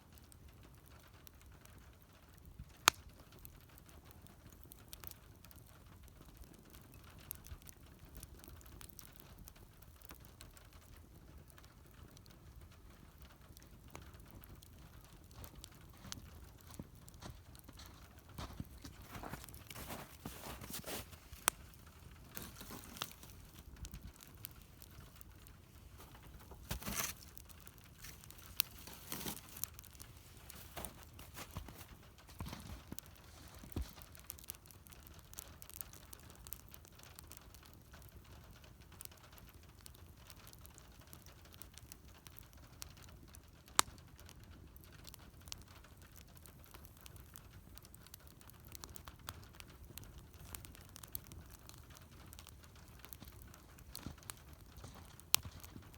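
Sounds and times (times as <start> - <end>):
faint steady hiss: 0.0 - 55.9
wood fire crackling and popping: 0.0 - 55.9.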